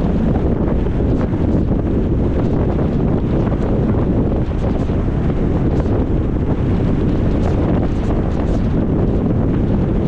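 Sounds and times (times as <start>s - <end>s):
car driving rumble: 0.0s - 10.0s
wind buffeting microphone: 0.0s - 10.0s.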